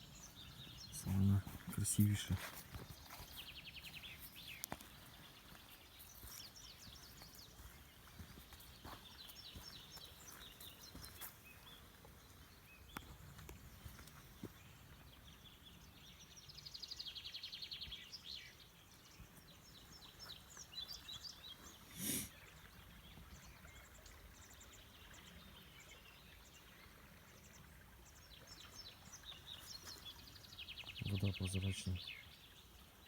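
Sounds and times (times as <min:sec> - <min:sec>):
birds singing: 0:00.0 - 0:33.0.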